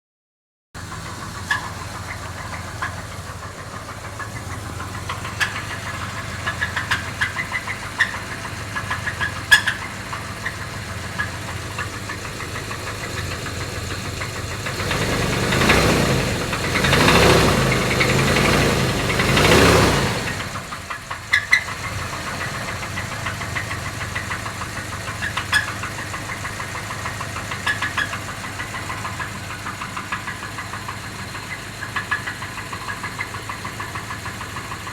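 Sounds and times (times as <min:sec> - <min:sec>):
car engine idling: 0:00.8 - 0:34.9
engine knocking tick: 0:00.8 - 0:34.9
engine revving: 0:00.8 - 0:34.9.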